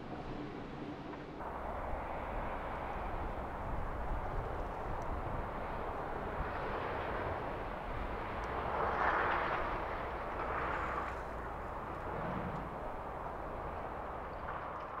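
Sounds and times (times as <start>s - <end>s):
heavy construction machinery rumble: 0.0s - 15.0s.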